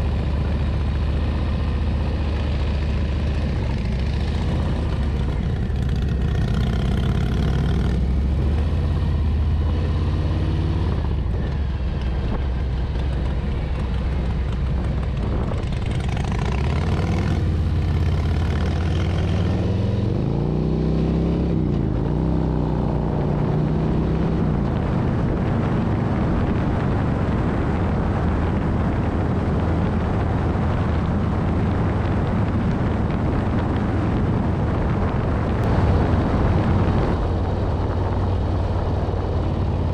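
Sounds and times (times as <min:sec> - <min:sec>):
motorcycle engine running: 0:00.0 - 0:39.9
road noise: 0:00.0 - 0:39.9
wind rushing over microphone: 0:00.0 - 0:39.9.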